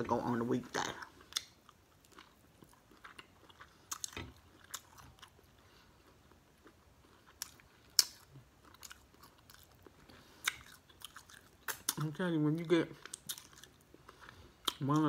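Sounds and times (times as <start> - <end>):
person chewing wetly: 0.8 - 15.0.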